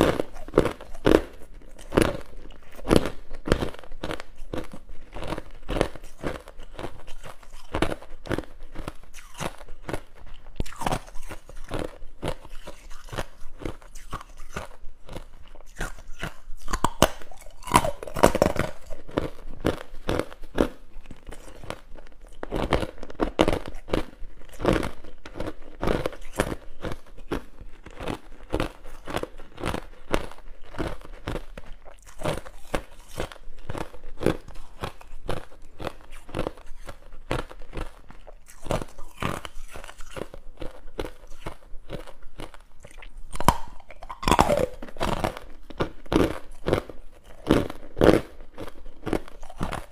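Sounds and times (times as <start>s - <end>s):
person crunching ice: 0.0s - 49.9s.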